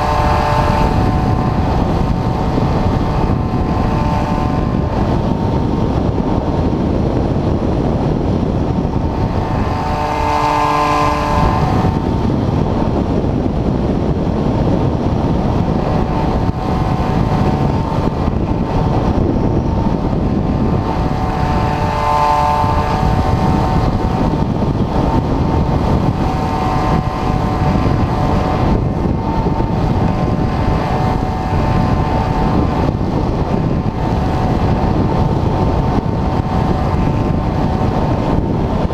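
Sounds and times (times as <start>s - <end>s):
electric motor and propeller whining: 0.0s - 38.9s
wind buffeting microphone: 0.0s - 38.9s.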